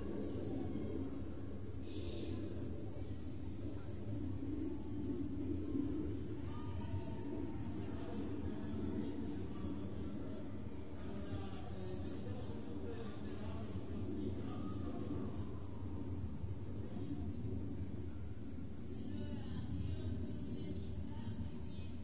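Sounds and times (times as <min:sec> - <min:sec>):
crickets trilling: 0:00.0 - 0:22.0
low background rumble: 0:00.0 - 0:22.0.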